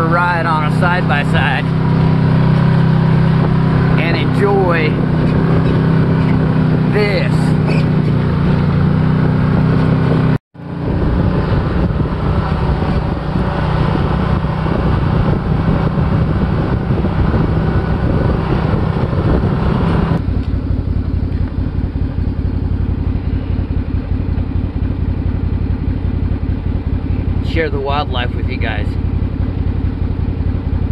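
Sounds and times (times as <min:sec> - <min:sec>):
engine running while driving: 0:00.0 - 0:30.9.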